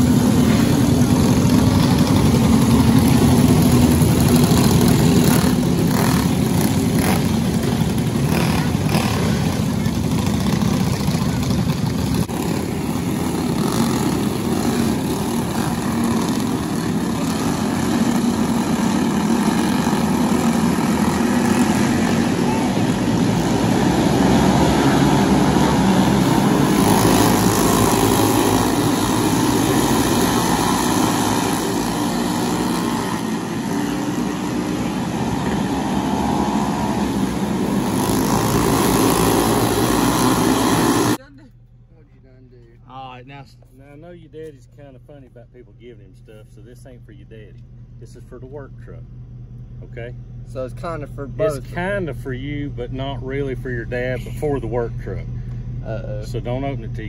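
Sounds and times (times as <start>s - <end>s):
racing kart engines buzzing: 0.0s - 41.3s, 49.6s - 57.0s.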